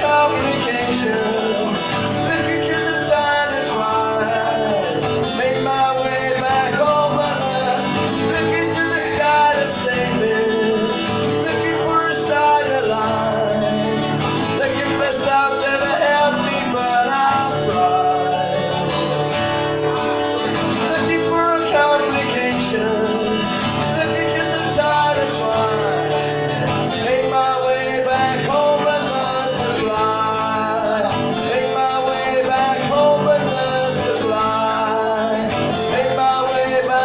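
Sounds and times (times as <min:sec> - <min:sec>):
acoustic guitar: 0:00.0 - 0:37.0
man singing: 0:00.0 - 0:37.0.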